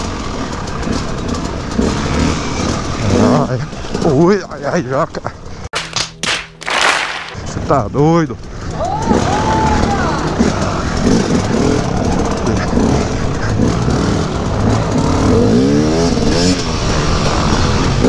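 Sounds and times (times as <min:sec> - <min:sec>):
dirt bike engine revving: 0:00.0 - 0:04.8, 0:07.1 - 0:18.0.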